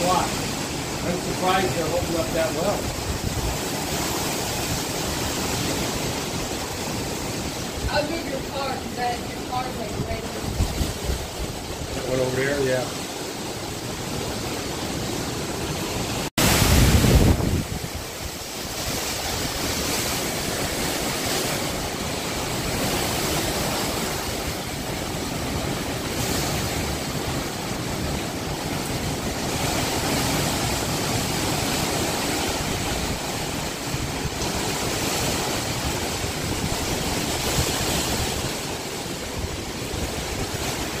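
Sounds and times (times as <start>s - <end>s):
hurricane wind gusting: 0.0s - 41.0s
wind buffeting microphone: 0.0s - 41.0s.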